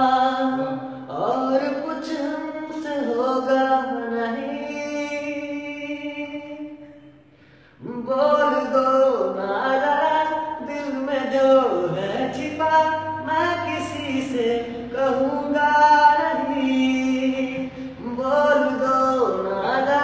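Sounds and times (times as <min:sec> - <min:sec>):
man singing a cappella: 0:00.0 - 0:20.0.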